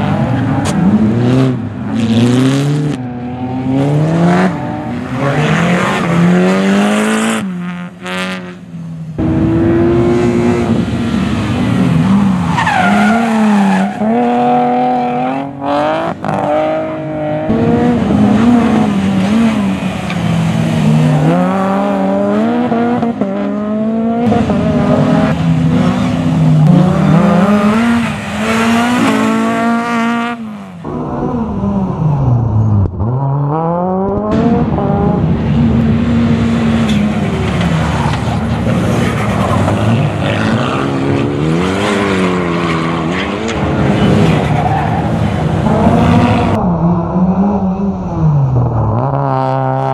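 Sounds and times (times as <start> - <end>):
rally car engine accelerating: 9.2 - 49.9.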